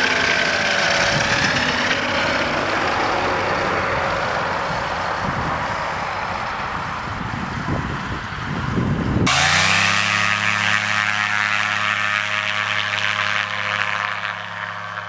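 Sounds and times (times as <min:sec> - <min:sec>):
ultralight engine and propeller drone: 0:00.0 - 0:15.0.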